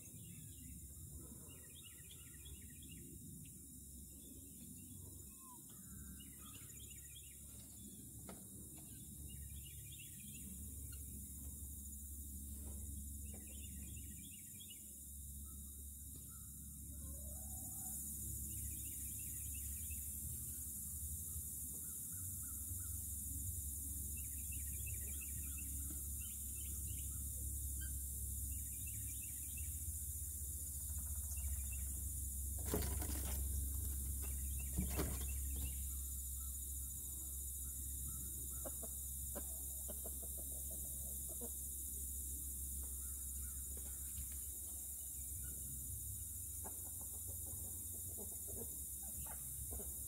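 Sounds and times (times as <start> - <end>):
low steady rumble: 0.0 - 50.0.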